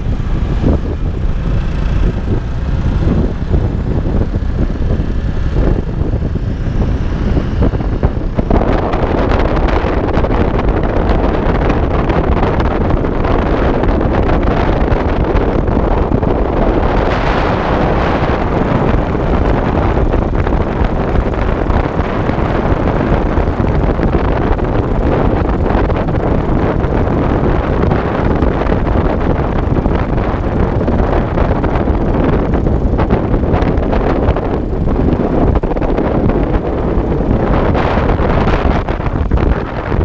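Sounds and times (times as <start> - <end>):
motorcycle running: 0.0 - 40.0
wind buffeting microphone: 0.0 - 40.0.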